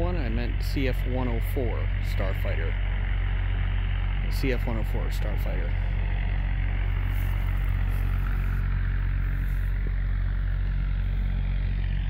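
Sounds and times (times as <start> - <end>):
distant aircraft engines droning: 0.0 - 12.0.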